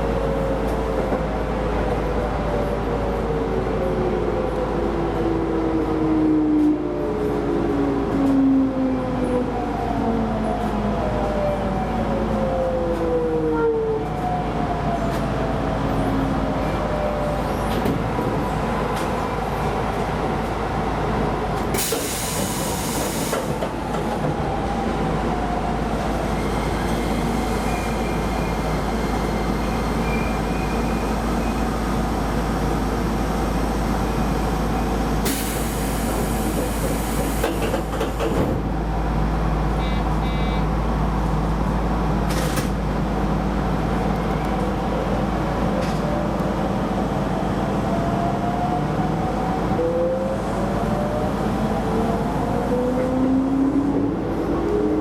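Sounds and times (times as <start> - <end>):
train wheels rumbling on rail: 10.1 - 55.0.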